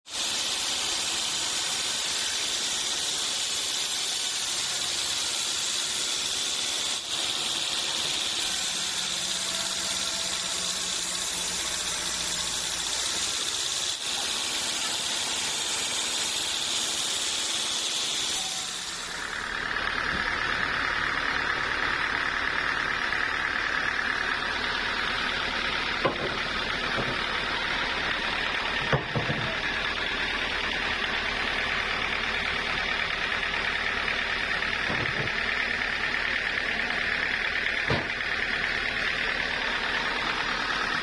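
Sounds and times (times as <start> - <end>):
saw cutting wood: 0.0 - 41.0.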